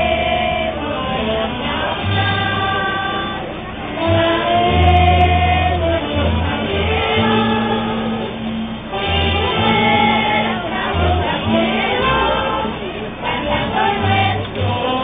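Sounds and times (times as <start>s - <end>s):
group singing: 0.0s - 15.0s
low held bass notes: 0.0s - 15.0s
musical accompaniment: 0.0s - 15.0s.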